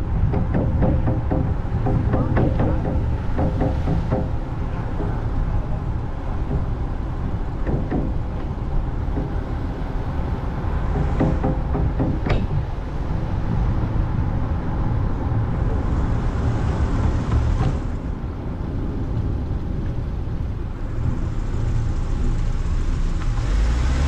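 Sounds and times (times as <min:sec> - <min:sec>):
car engine rumble: 0:00.0 - 0:24.0
wind: 0:00.0 - 0:24.0.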